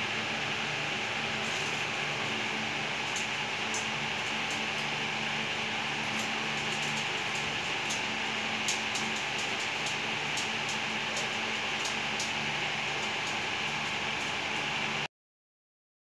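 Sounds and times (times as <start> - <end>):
low machine hum: 0.0 - 15.1.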